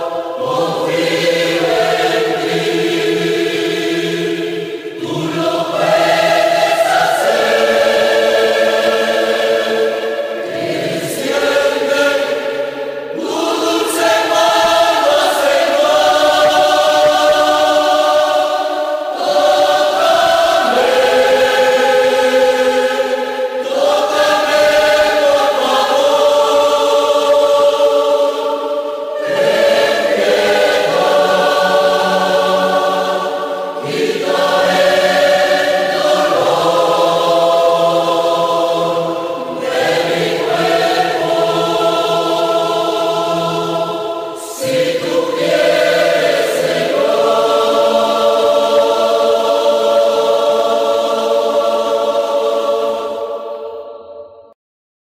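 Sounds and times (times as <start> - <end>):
choir singing a hymn: 0.0 - 54.5.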